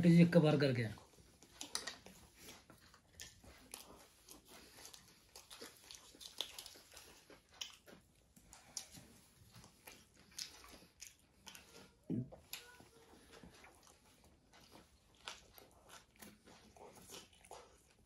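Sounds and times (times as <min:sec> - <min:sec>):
person chewing crunchy food: 0:01.0 - 0:18.0.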